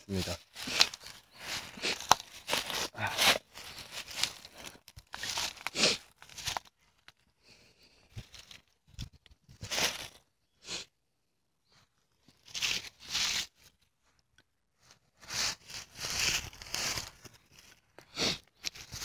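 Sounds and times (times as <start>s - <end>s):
dry leaves and twigs crunching: 0.0s - 7.3s, 8.1s - 10.3s, 12.2s - 14.2s, 14.8s - 19.0s.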